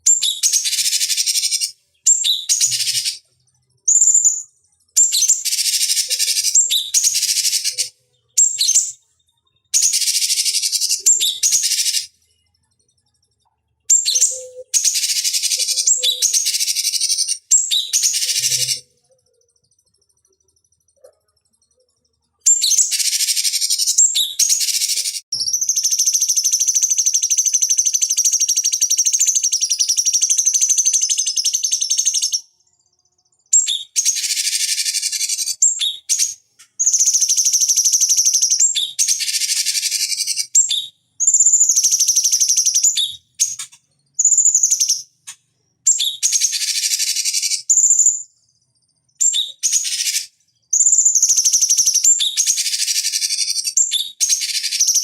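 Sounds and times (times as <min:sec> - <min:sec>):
bird singing high busy song: 0:00.0 - 0:55.0.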